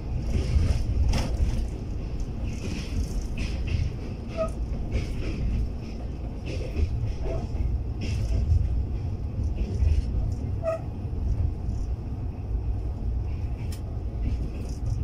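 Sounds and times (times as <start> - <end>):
train rumbling inside coach: 0.0 - 15.0.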